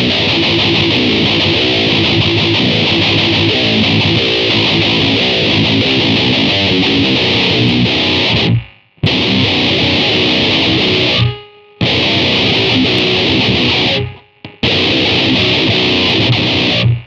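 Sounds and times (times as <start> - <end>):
distorted electric guitar riff: 0.0 - 17.0.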